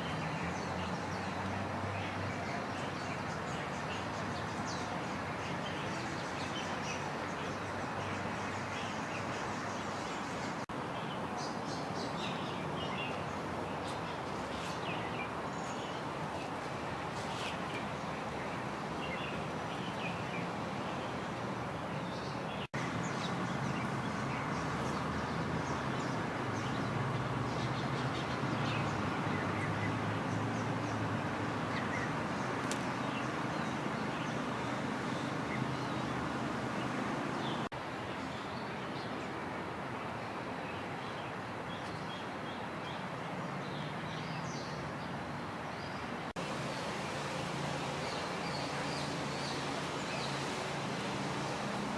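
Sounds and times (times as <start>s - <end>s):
distant traffic rumble: 0.0s - 51.9s.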